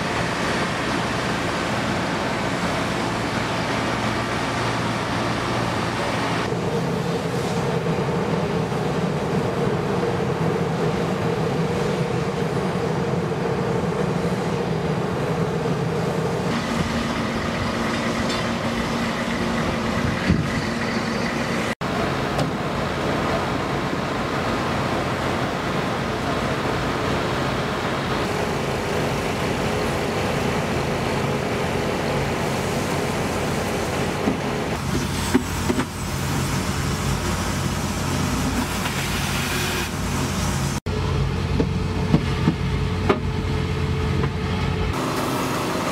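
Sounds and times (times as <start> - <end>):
vehicle engines droning: 0.0 - 45.9
wash-rack machinery running: 0.0 - 45.9.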